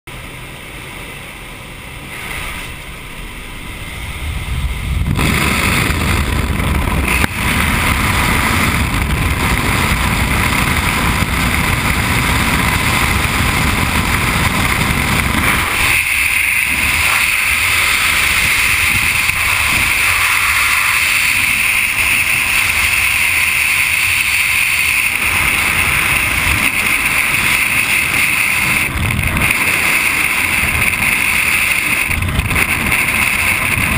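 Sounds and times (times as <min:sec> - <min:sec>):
wind and plane engine noise: 0:00.1 - 0:33.9
freefall wind rushing: 0:01.9 - 0:33.9.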